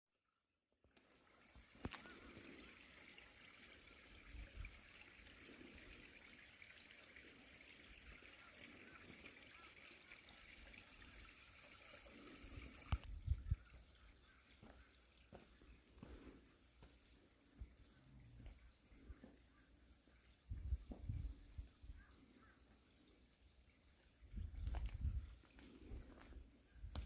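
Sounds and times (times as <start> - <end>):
small stream trickling: 0.2 - 27.0.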